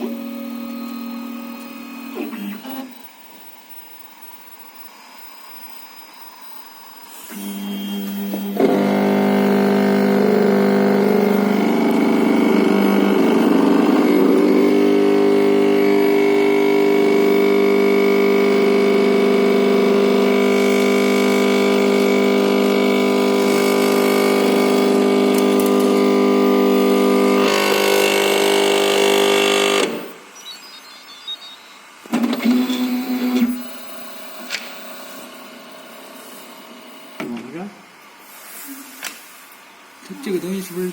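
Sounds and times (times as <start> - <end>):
printer droning buzz: 0.0 - 40.9.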